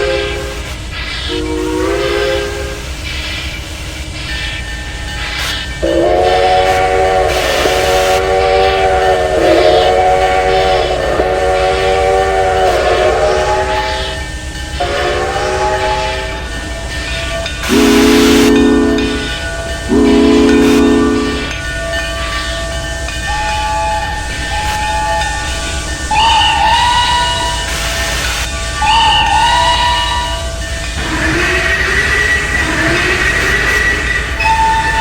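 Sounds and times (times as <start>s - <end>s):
steam hissing: 0.0s - 35.0s
steam locomotive chime whistle: 0.0s - 35.0s.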